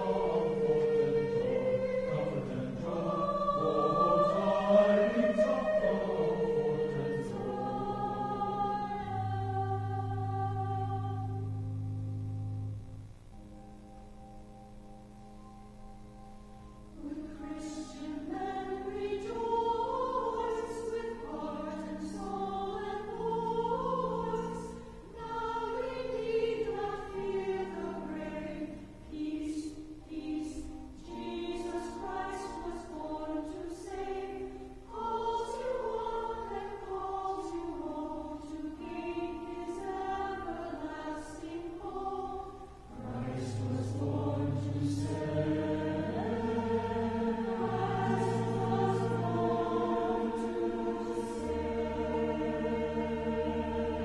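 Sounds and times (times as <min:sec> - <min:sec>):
choir singing in harmony: 0:00.0 - 0:13.8, 0:16.8 - 0:54.0.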